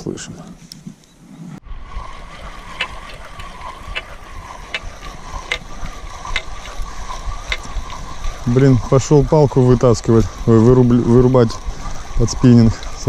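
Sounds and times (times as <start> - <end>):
low wind rumble: 0.0 - 13.0.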